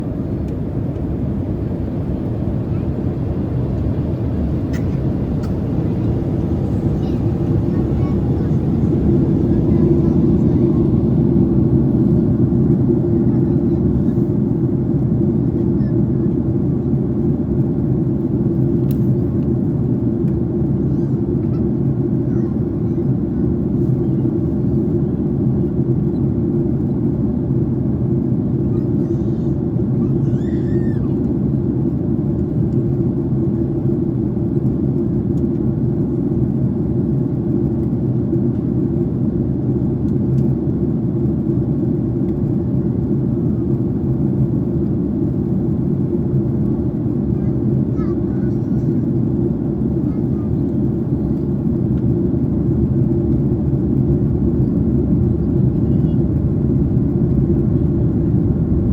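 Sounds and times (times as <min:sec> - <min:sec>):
airplane cabin rumble: 0:00.0 - 0:58.9.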